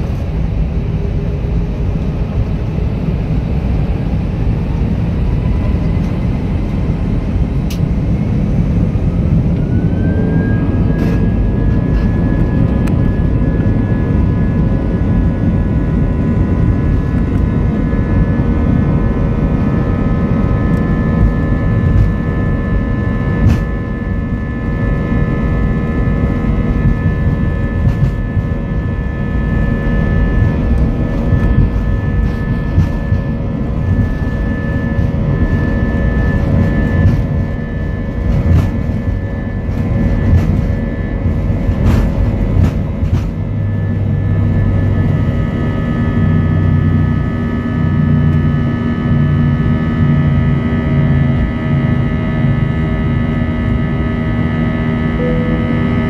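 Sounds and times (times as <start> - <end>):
deep hum: 0.0 - 56.0
jet engines roaring: 0.0 - 56.0.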